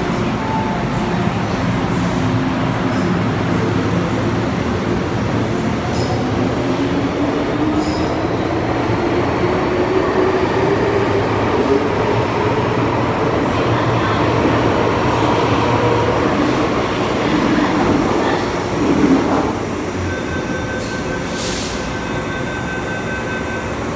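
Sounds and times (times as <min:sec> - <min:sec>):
rising train whine: 0:00.0 - 0:23.9.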